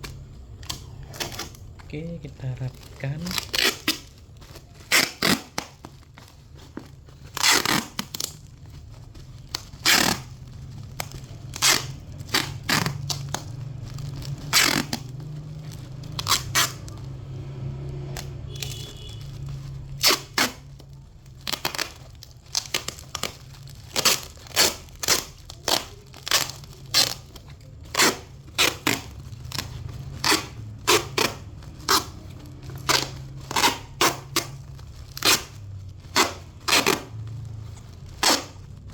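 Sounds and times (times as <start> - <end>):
plastic wrapping crinkling: 0.0 - 38.9.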